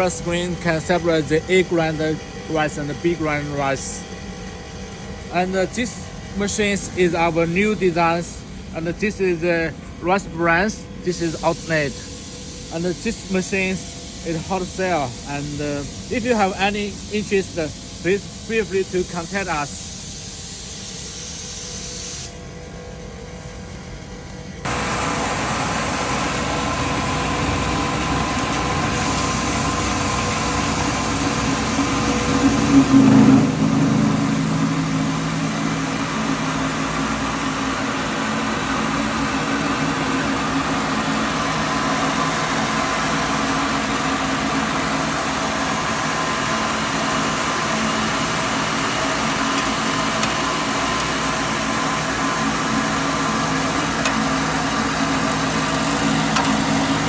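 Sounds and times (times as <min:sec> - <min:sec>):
milling machine humming: 0:00.0 - 0:20.0, 0:22.4 - 0:57.0.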